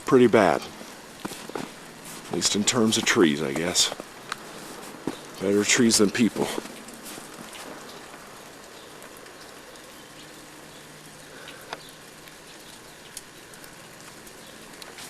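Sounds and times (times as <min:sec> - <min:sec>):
water drops pattering: 0:00.0 - 0:15.0.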